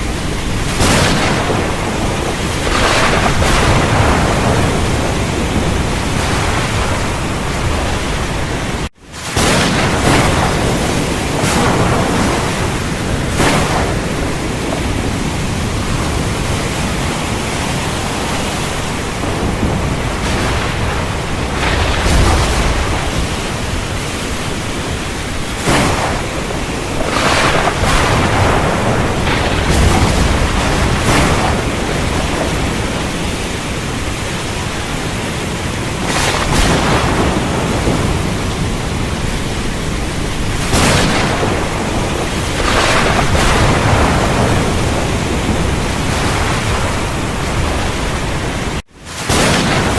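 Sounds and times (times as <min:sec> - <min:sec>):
deep thunder rumbling: 0:00.0 - 0:49.9
heavy rain: 0:00.0 - 0:49.9
thunder cracking: 0:00.0 - 0:49.9.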